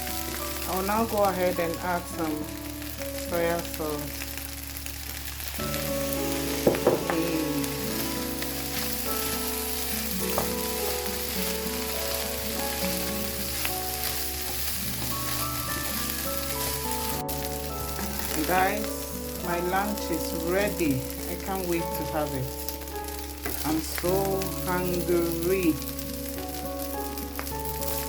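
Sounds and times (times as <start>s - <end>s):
food sizzling in a frying pan: 0.0s - 28.0s
instrumental background music: 0.0s - 28.0s.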